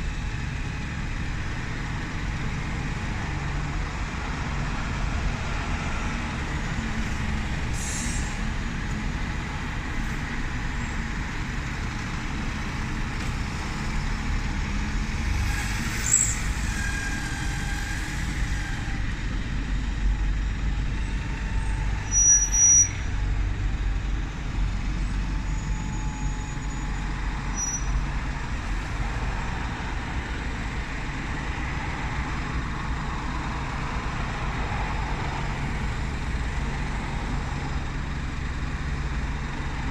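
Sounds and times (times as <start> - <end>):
bus diesel engine idling: 0.0 - 39.9.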